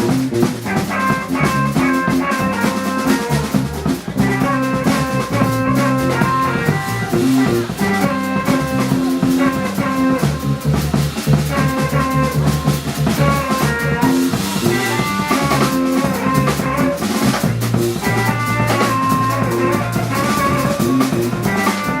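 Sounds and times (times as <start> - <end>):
bass guitar lines: 0.0 - 22.0
drum kit: 0.0 - 22.0
electric guitar: 0.0 - 22.0.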